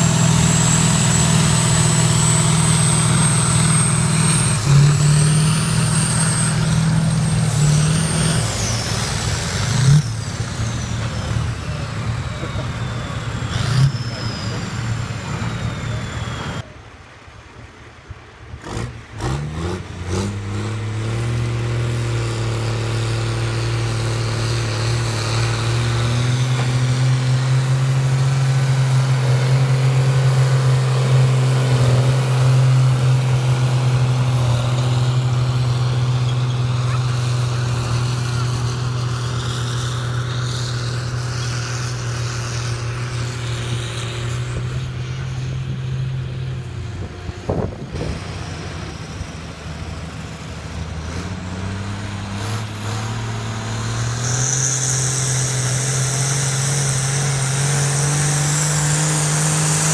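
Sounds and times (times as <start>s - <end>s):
tractor engine running hard: 0.0s - 16.7s, 19.0s - 59.9s.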